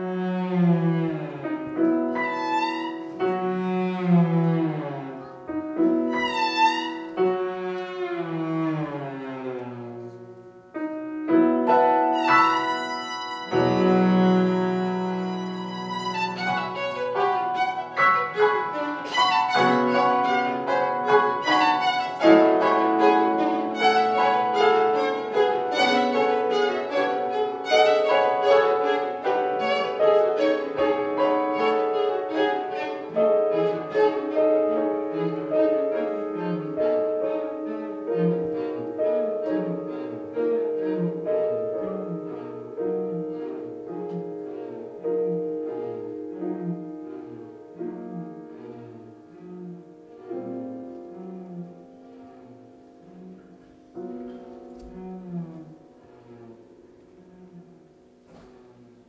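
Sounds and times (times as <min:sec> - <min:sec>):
violin and cello bowing: 0:00.0 - 0:10.4, 0:11.6 - 0:59.0
piano notes and chords: 0:00.0 - 0:59.0.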